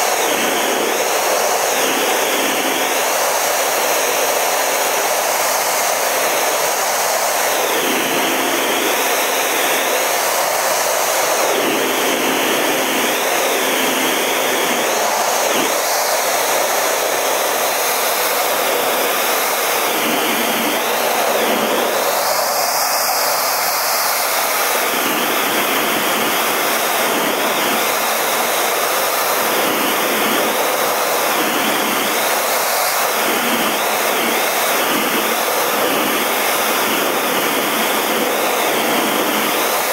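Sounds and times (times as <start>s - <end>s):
jet engine rushing in cockpit: 0.0s - 39.9s.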